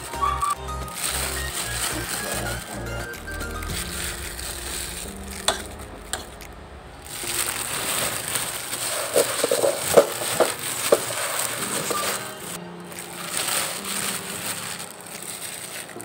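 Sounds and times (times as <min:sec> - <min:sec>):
breadcrumbs crunching and rustling: 0:00.8 - 0:16.0.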